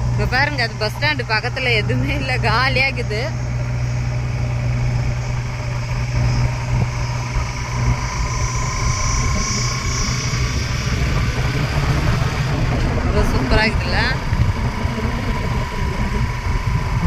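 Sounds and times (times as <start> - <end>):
vehicle engine hum and road noise: 0.0 - 17.0.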